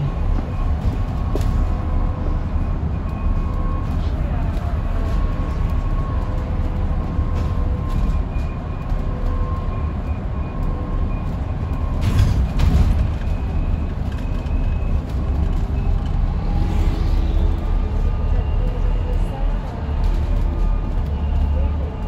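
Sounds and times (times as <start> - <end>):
road and tyre rumble: 0.0 - 22.0.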